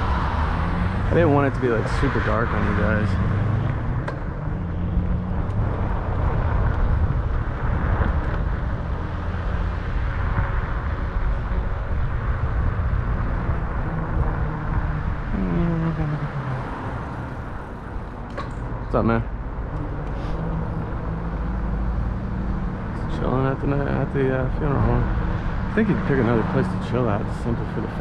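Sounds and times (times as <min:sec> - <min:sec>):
wind and road rush: 0:00.0 - 0:28.0.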